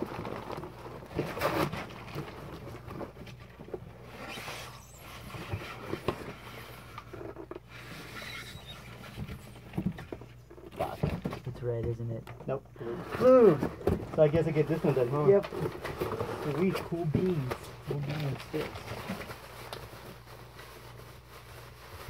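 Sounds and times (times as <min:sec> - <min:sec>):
cardboard and plastic rustling: 0:00.0 - 0:22.0.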